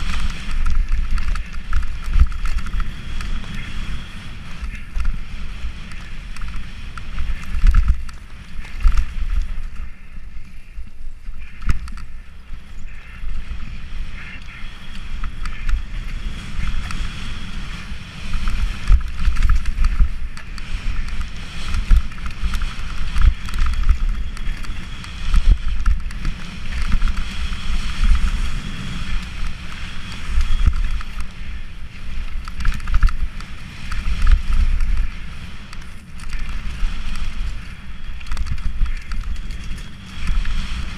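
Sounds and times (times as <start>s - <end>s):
bike knocking and rattling: 0.0s - 40.9s
wind buffeting microphone: 0.0s - 40.9s.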